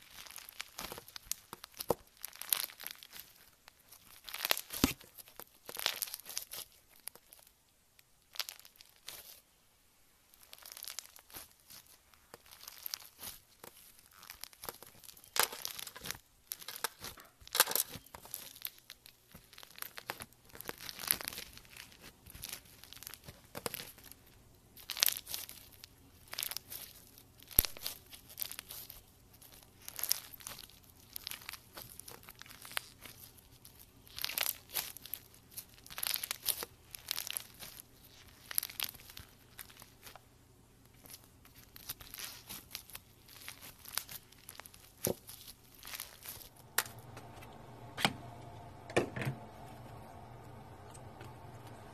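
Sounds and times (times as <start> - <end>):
slime crackling and popping: 0.0 - 9.5, 10.2 - 48.9.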